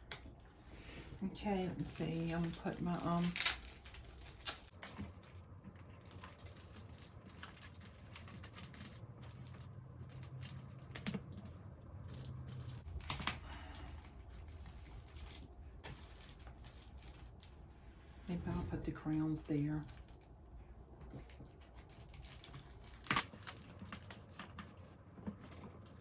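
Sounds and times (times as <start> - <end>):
faint low hum: 0.0 - 26.0
small items clicking and tapping: 1.7 - 17.6, 21.0 - 26.0.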